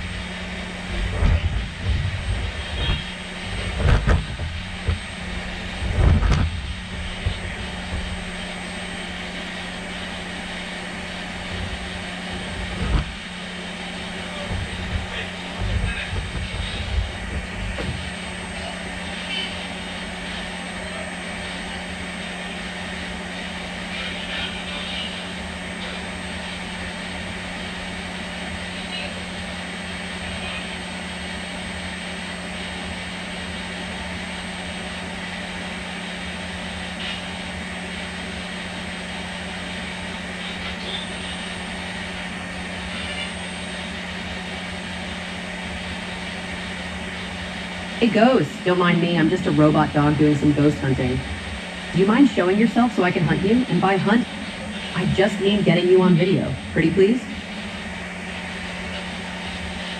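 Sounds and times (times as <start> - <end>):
robot motors and fan whirring: 0.0 - 59.9.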